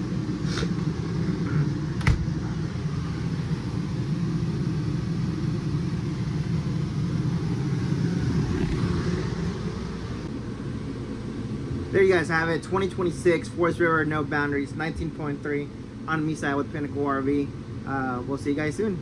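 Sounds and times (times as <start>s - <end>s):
low rumble: 0.0s - 16.1s.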